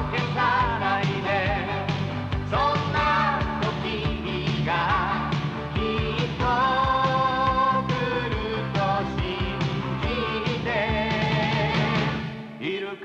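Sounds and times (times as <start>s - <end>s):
steady drum beat: 0.0s - 12.2s
song with band accompaniment: 0.0s - 13.0s.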